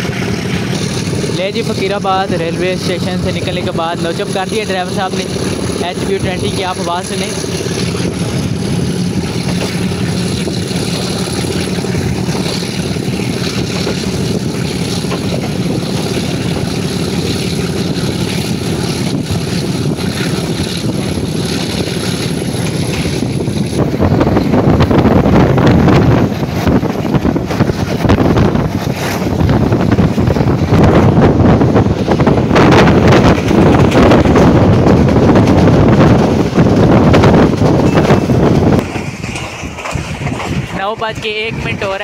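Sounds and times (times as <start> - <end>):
diesel locomotive engine drone: 0.0 - 42.0
train rumble: 0.0 - 42.0
wind rushing over microphone: 0.0 - 42.0.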